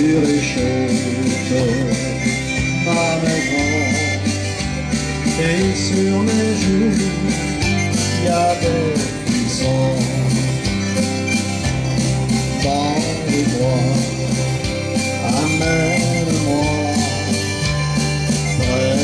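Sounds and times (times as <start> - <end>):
country backing track with beat: 0.0 - 19.0
electric guitar playing: 0.0 - 19.0.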